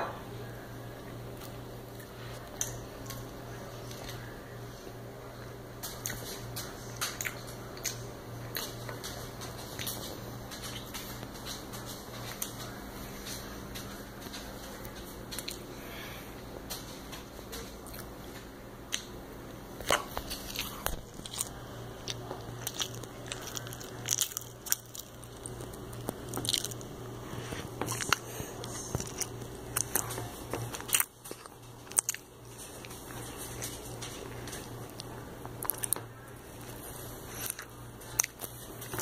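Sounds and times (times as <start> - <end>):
person chewing a sandwich: 5.4 - 19.1, 19.8 - 39.0.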